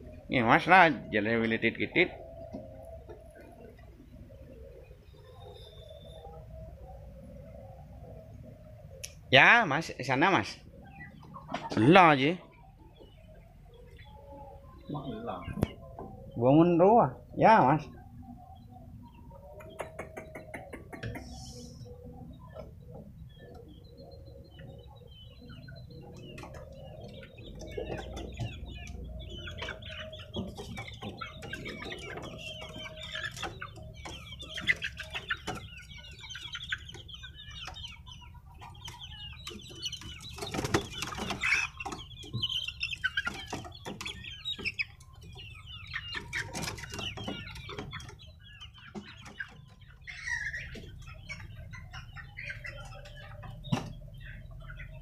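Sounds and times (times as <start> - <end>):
chickens clucking and squawking: 0.0 - 55.0.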